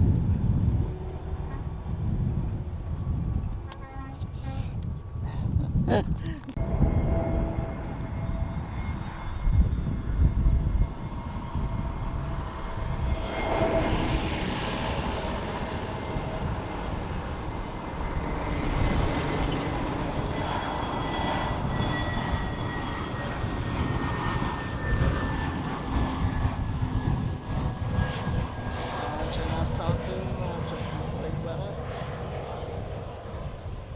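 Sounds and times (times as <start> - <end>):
jet engines roaring: 0.0 - 33.9
thin engine whine: 0.0 - 33.9.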